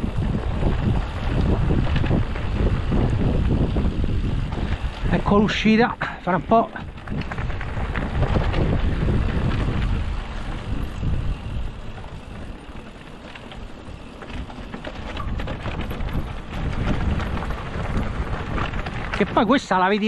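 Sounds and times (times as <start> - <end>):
bike rattles and knocks: 0.0 - 20.0
wind buffeting microphone: 0.0 - 20.0.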